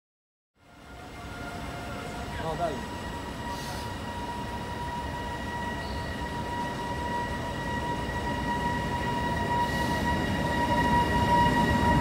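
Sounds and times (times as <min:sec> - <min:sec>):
electric locomotive rumble: 0:00.6 - 0:12.0.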